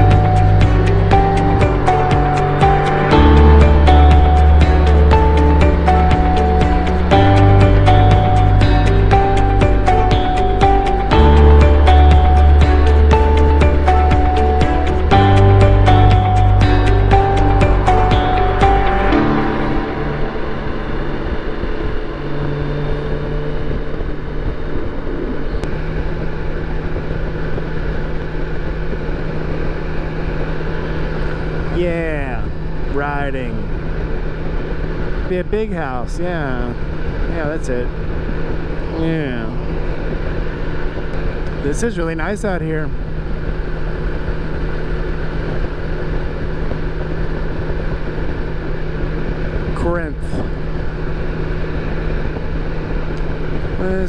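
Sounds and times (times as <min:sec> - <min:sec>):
motorcycle engine humming: 0:00.0 - 0:54.0
wind and road noise: 0:00.0 - 0:54.0.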